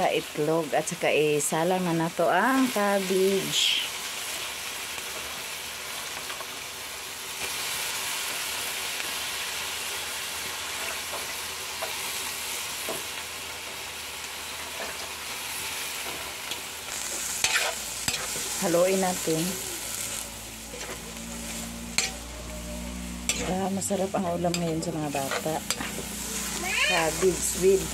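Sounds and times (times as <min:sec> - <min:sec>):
cabbage sizzling in a wok: 0:00.0 - 0:27.9.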